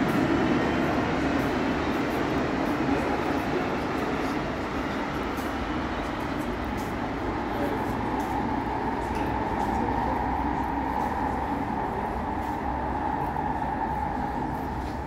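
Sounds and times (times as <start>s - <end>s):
train rumbling in tunnel: 0.0s - 15.0s.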